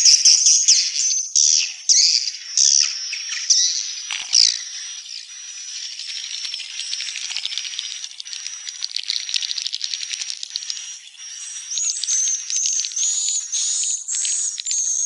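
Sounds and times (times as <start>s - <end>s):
buzzy ticking bird chatter: 0.0s - 15.0s.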